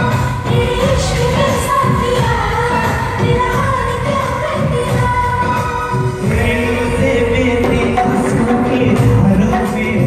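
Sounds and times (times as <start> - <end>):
loud dance music with singing: 0.0 - 10.0.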